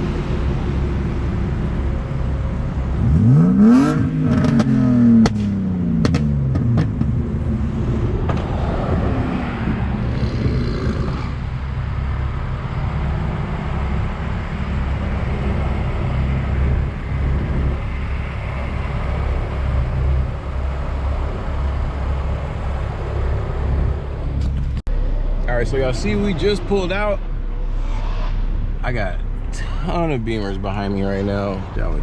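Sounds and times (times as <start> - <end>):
car engine running at low revs: 0.0 - 32.0
road noise: 0.0 - 32.0.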